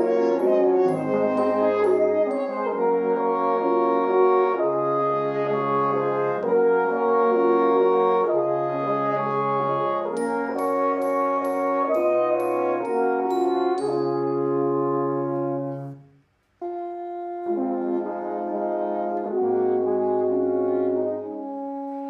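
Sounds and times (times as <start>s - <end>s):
french horn ensemble chords: 0.0s - 16.0s, 16.6s - 22.0s.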